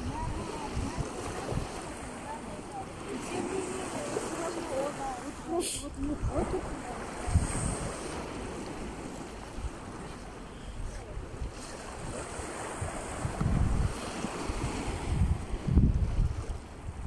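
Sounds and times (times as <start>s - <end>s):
small waves on sandy shore: 0.0s - 17.0s
wind on microphone: 0.0s - 17.0s.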